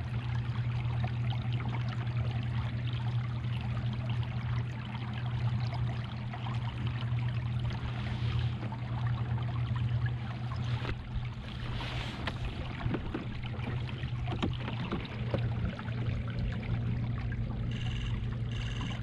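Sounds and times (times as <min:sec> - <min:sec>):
trolling motor humming: 0:00.0 - 0:19.0
water lapping along hull: 0:00.0 - 0:19.0.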